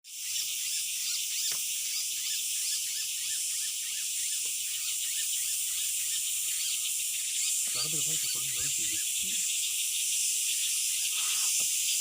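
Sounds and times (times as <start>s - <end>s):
high-pitched hiss: 0.1s - 12.0s
chirping animal calls: 0.2s - 12.0s.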